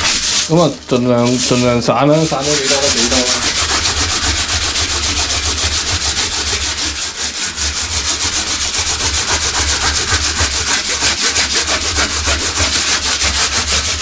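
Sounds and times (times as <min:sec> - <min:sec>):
sandpaper scratching: 0:00.0 - 0:14.0.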